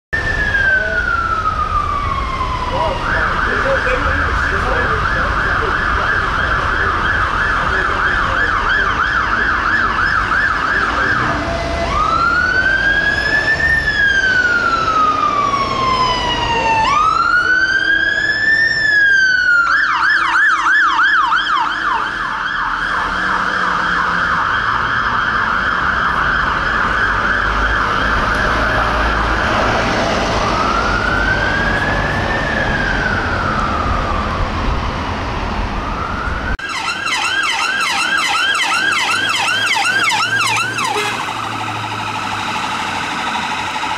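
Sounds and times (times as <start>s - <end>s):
fire engine siren yelping and wailing: 0.1s - 43.9s.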